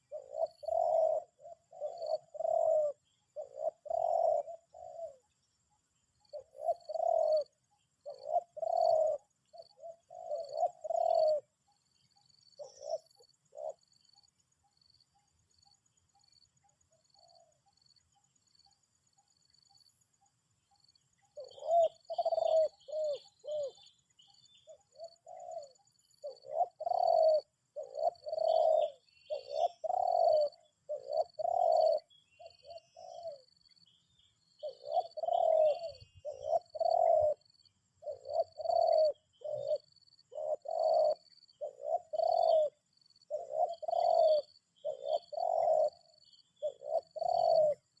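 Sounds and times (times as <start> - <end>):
doves cooing: 0.0 - 5.5, 6.2 - 14.0, 21.2 - 24.0, 24.6 - 33.6, 34.6 - 48.0
small birds chirping faintly: 0.0 - 48.0.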